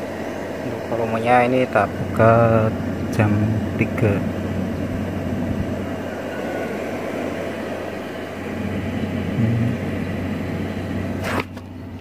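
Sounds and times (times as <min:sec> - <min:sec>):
amplifier hum and hiss: 0:00.0 - 0:12.0.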